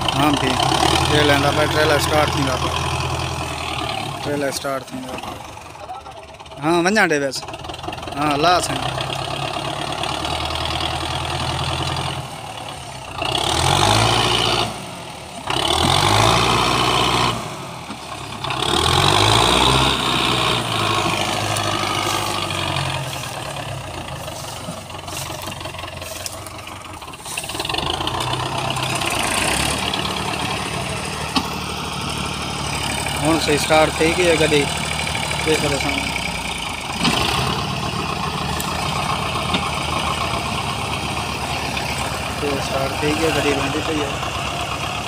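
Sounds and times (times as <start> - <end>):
diesel tractor engine revving: 0.0 - 45.0.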